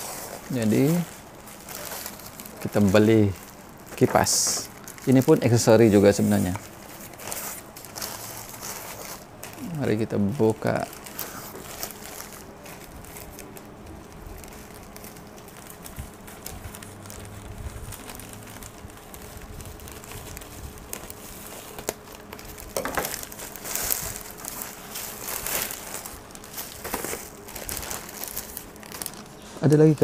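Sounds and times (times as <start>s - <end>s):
plastic mailer and bubble wrap crinkling: 0.0s - 30.0s.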